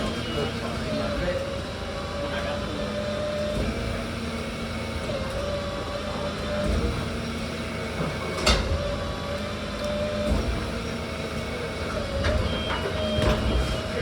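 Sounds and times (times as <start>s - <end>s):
garbage truck engine drone: 0.0s - 14.0s.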